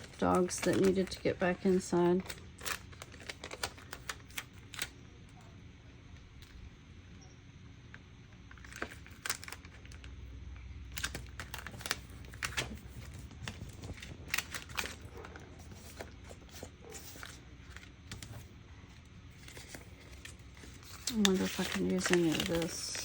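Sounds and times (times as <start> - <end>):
paper rustling and crinkling: 0.0 - 5.0, 8.4 - 10.1, 10.9 - 23.0.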